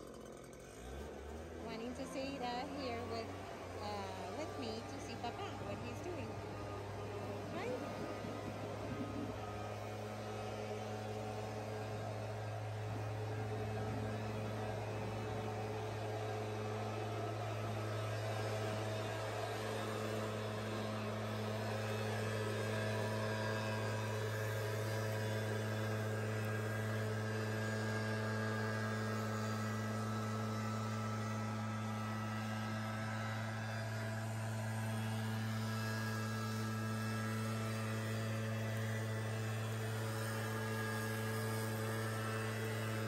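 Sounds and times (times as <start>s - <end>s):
steady low hum: 1.6s - 43.0s.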